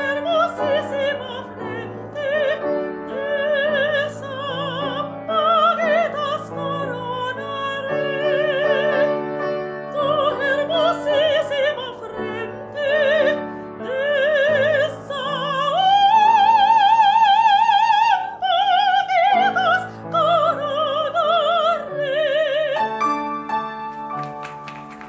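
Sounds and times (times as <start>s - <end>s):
soprano operatic singing: 0.0s - 23.2s
piano accompaniment: 0.0s - 25.0s.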